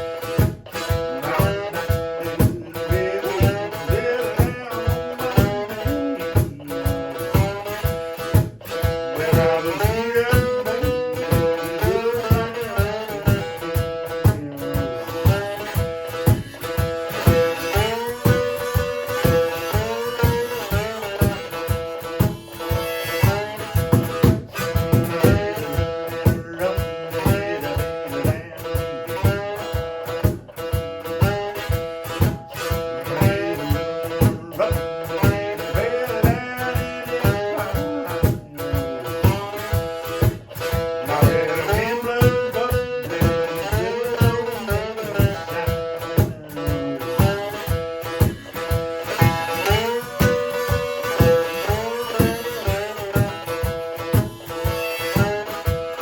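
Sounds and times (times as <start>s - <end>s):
cajon beat: 0.0s - 56.0s
slide guitar blues: 0.0s - 56.0s.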